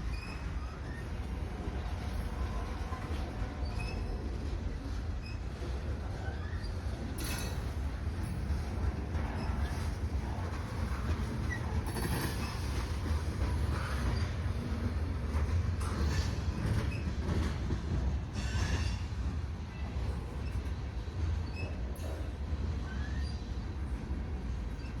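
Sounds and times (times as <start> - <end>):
train rumbling past: 0.0 - 25.0.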